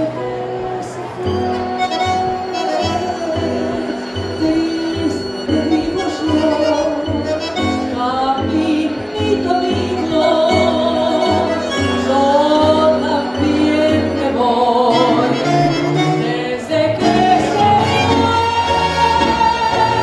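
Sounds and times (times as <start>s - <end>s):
tango band playing: 0.0s - 20.0s
woman singing: 0.0s - 20.0s.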